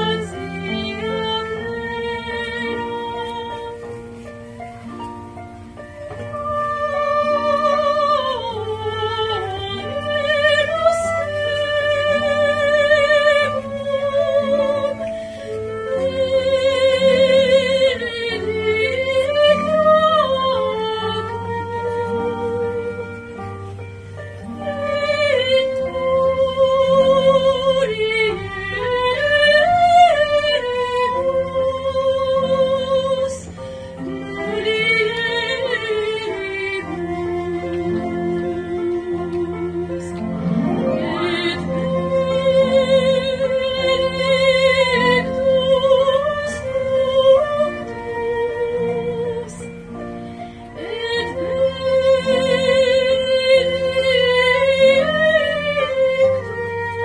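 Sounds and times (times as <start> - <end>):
woman singing operatically: 0.0 - 4.0, 6.3 - 23.3, 24.5 - 49.9, 50.8 - 57.0
chamber music with vibrato melody: 0.0 - 57.0
soft instrumental accompaniment: 0.0 - 57.0.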